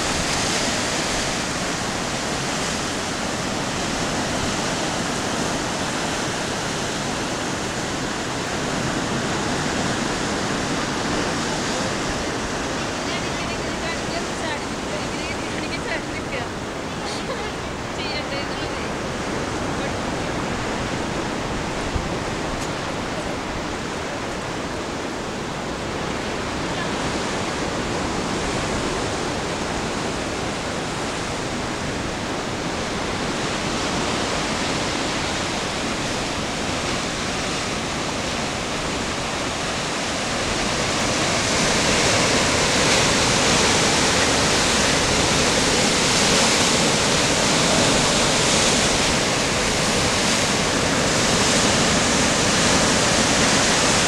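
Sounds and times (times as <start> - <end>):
surf breaking over rocks: 0.0 - 54.0.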